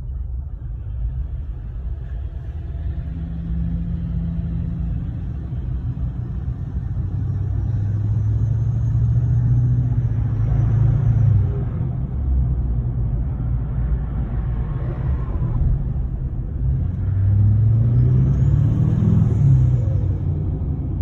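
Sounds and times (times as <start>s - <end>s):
diesel engine low drone: 0.0s - 21.0s.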